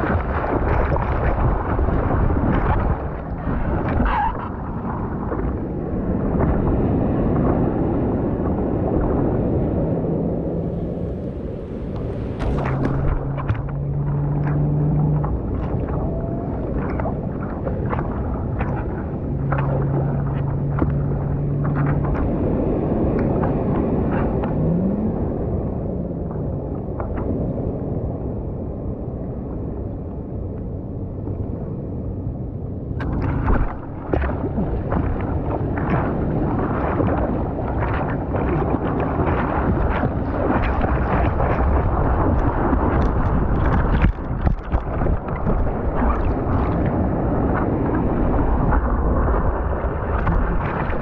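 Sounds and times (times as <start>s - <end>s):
water splashing against surfboard: 0.0s - 9.8s, 10.4s - 25.7s, 32.9s - 51.0s
low steady hum: 0.0s - 51.0s
wind on microphone: 0.0s - 51.0s.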